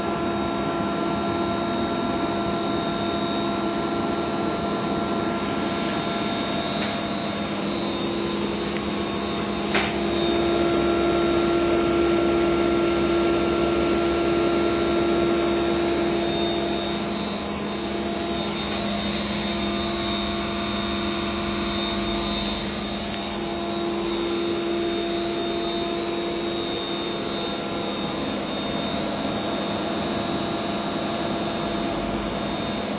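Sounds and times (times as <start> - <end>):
frequency inverter humming and whining: 0.0 - 32.9.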